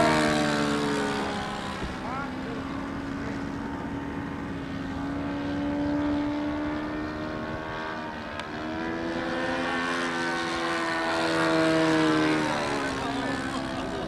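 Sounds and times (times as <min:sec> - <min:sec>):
model airplane motor buzzing: 0:00.0 - 0:14.0.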